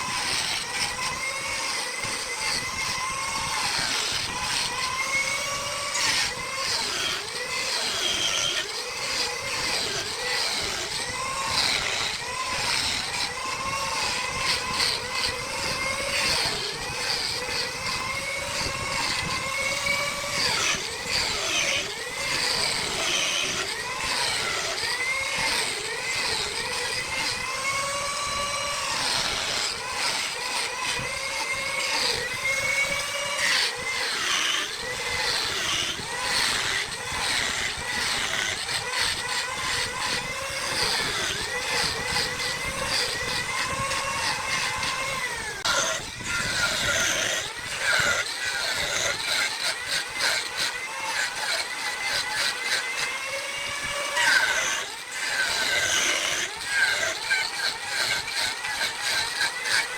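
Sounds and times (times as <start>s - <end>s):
tool scraping spinning wood: 0.0s - 59.9s
wood lathe motor whine: 0.0s - 59.9s.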